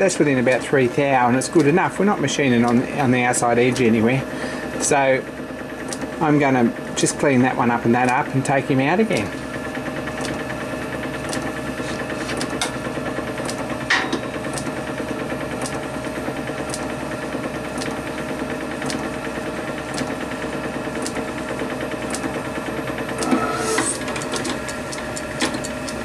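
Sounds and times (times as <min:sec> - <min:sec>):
electric machine motor hum: 0:00.0 - 0:26.0.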